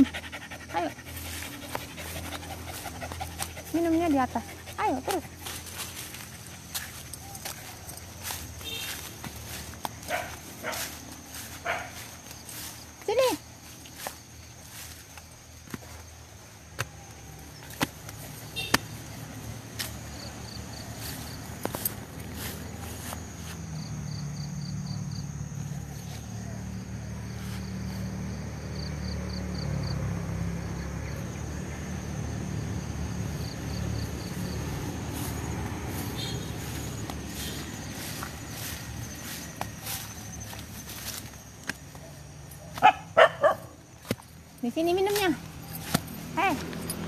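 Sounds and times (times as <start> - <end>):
insect chirping trills: 0.0 - 47.0
passing vehicle engine rumble: 0.0 - 47.0.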